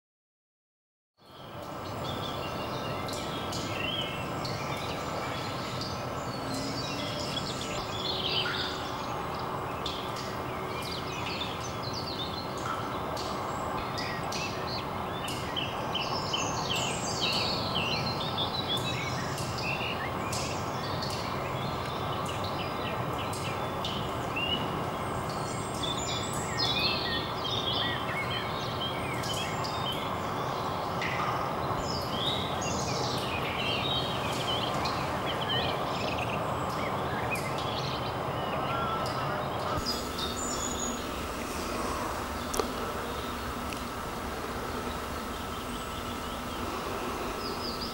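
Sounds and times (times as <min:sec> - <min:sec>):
steady background noise: 0:01.2 - 0:47.9
birds chirping: 0:01.3 - 0:47.9.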